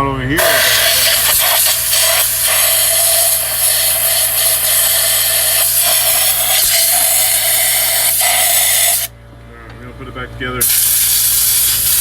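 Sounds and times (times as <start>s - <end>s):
constant machine hum: 0.0s - 12.0s
machine hissing: 0.4s - 9.1s, 10.6s - 12.0s.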